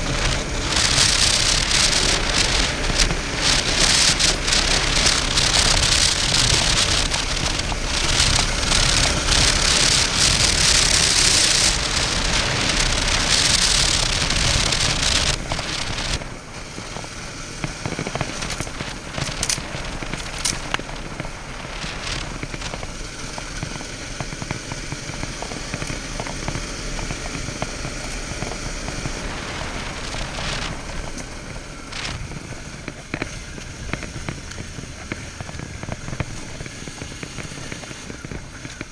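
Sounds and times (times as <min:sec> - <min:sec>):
crackles and clicks: 0:00.0 - 0:38.9
road noise: 0:00.0 - 0:38.9
rushing wind: 0:00.0 - 0:38.9.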